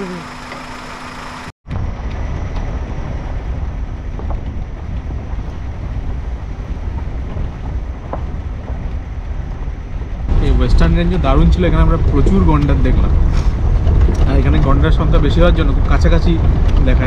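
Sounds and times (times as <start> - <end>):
vehicle driving on dirt track: 0.0 - 17.0.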